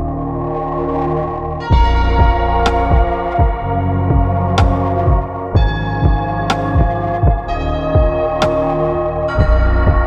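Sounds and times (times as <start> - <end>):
ambient electronic music: 0.0 - 10.0.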